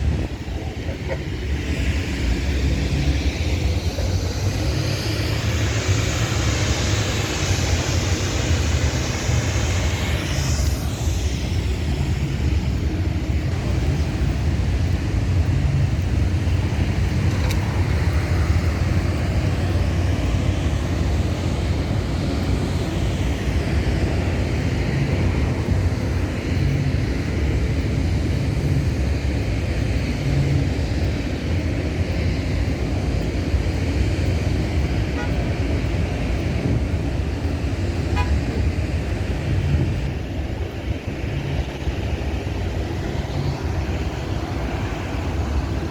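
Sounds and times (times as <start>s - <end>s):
city traffic rumble: 0.0s - 45.9s.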